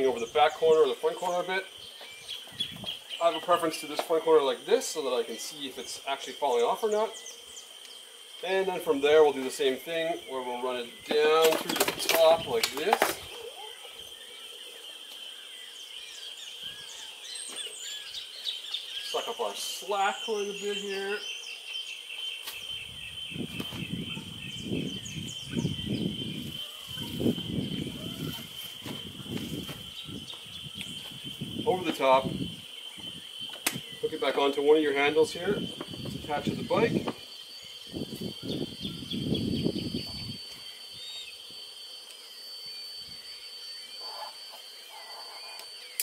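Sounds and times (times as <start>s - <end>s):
high insect trill: 0.0s - 46.0s.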